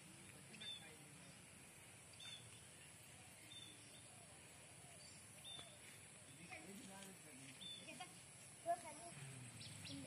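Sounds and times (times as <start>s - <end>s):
bird chirps: 0.2s - 6.6s, 7.4s - 10.0s.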